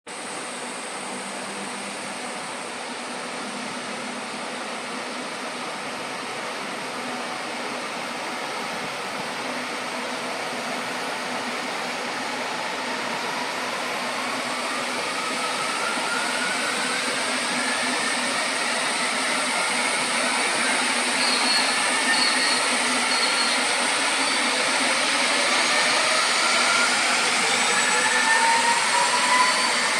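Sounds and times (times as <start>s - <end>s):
helicopter turbine engine rushing: 0.1s - 29.9s
rising turbine whine: 0.1s - 29.9s.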